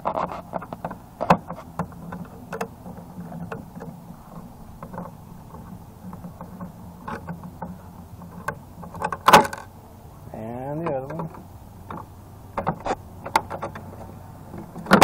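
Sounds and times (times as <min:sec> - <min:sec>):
metal clicks and scrapes: 0:00.0 - 0:09.7, 0:11.1 - 0:15.0
steady low hum: 0:00.0 - 0:15.0.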